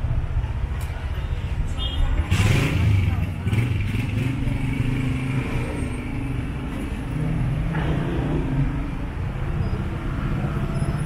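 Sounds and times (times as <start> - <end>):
car engines passing: 0.0 - 11.0.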